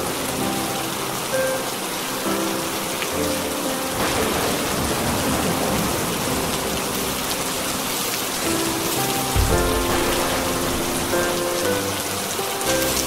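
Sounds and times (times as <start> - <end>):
soft music of long held notes: 0.0 - 13.0
steady rain falling: 0.0 - 13.0.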